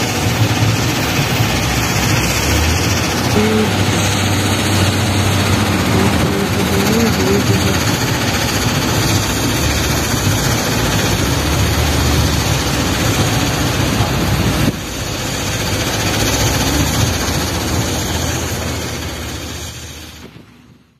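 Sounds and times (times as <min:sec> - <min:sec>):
diesel engine of wheel loader: 0:00.0 - 0:20.9
loud rushing noise: 0:00.0 - 0:20.9.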